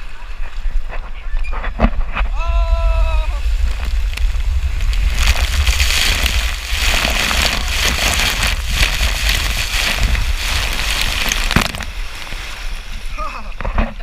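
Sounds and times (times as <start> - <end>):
water rushing and spraying: 0.0 - 13.8
wind buffeting microphone: 0.0 - 14.0.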